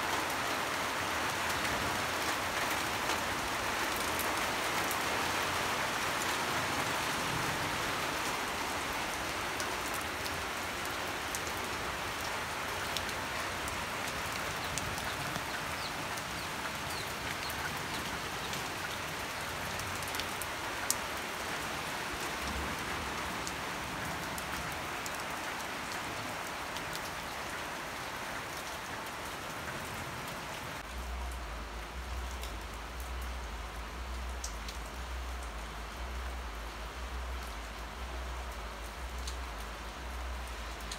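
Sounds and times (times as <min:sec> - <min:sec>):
rain on leaves and gravel: 0:00.0 - 0:40.9.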